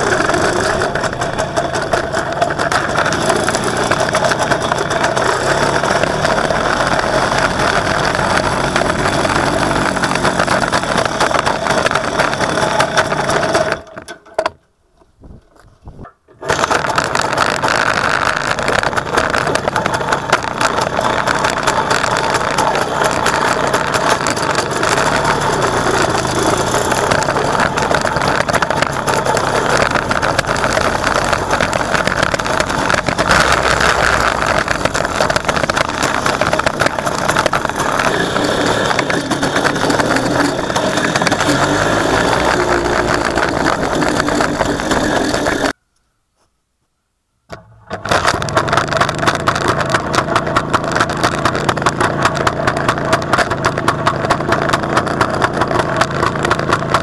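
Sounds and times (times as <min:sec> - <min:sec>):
two-stroke motorcycle engine idling: 0:00.0 - 0:13.9, 0:17.7 - 0:45.8, 0:48.1 - 0:57.0.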